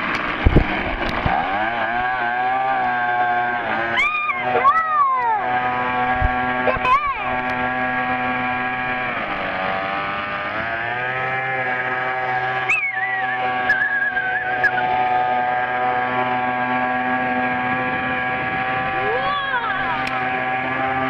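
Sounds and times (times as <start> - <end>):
rc boat engine at high revs: 0.0 - 21.0.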